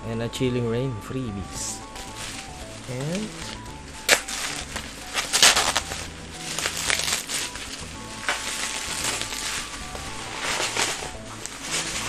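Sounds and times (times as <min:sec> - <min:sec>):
quiet background music: 0:00.0 - 0:12.0
plastic wrapping crinkling: 0:01.8 - 0:12.0.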